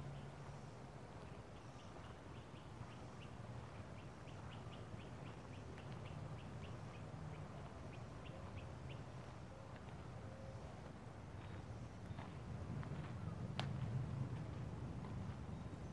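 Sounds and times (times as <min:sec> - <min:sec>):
low steady rumble: 0:00.0 - 0:15.9.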